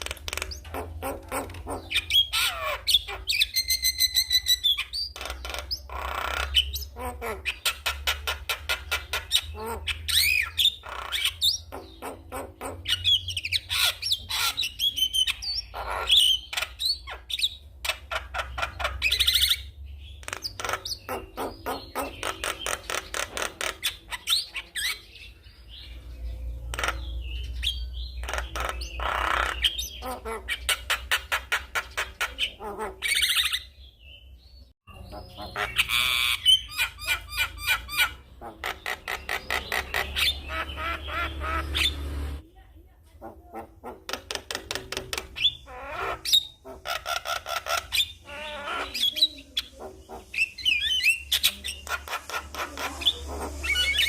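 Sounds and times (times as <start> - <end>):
bird chattering and whistling: 0.0 - 42.4, 43.2 - 54.0.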